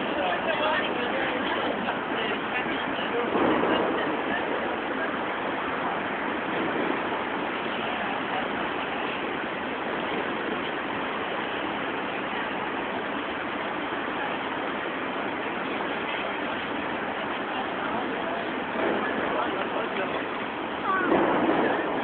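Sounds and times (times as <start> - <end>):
busy city street din: 0.0 - 22.0.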